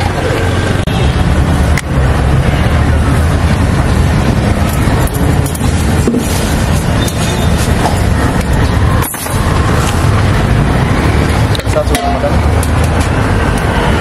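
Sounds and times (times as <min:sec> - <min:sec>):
street traffic drone: 0:00.0 - 0:14.0.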